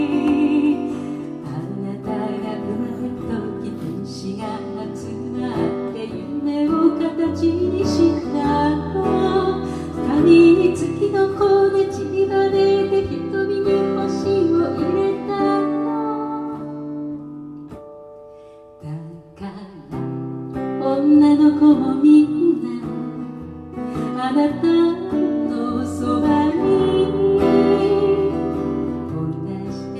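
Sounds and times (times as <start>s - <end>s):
song with plucked acoustic guitar: 0.0s - 29.9s.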